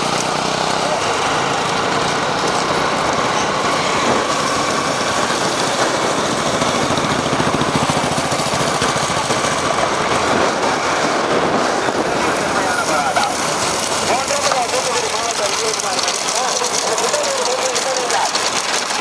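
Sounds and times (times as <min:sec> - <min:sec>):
loud rushing noise: 0:00.0 - 0:17.4
small engine running: 0:00.0 - 0:19.0.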